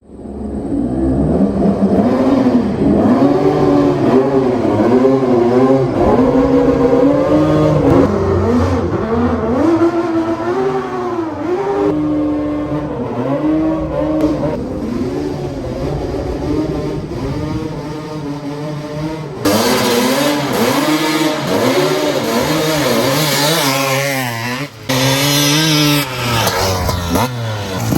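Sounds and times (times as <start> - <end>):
dirt bike engine revving: 0.7 - 27.9.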